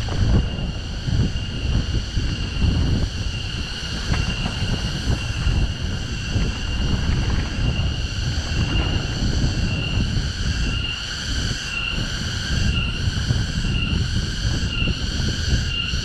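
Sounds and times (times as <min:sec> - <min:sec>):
mountain bike rolling on dirt: 0:00.0 - 0:15.0
wind buffeting microphone: 0:00.0 - 0:16.0.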